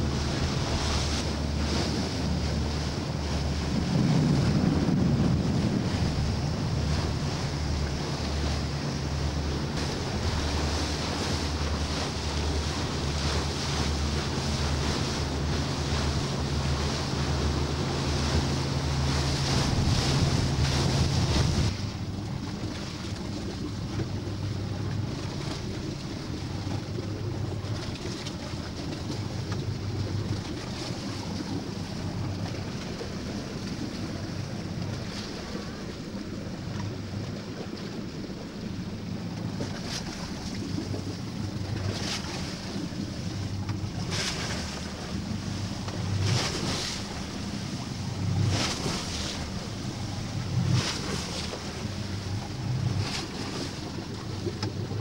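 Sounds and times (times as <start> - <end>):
boat engine drone: 0.0 - 55.0
water rushing past hull: 0.0 - 55.0
wind buffeting microphone: 0.0 - 55.0.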